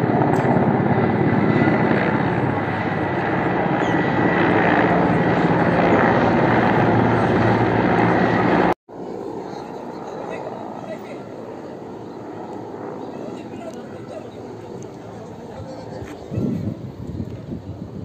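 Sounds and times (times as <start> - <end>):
helicopter flying overhead: 0.0 - 18.0.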